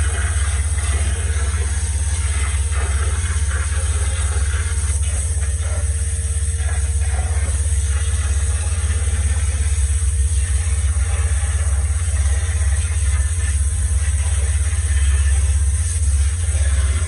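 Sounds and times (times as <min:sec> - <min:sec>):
pump engine rumbling: 0:00.0 - 0:17.0
water spray gun hissing: 0:00.0 - 0:17.0.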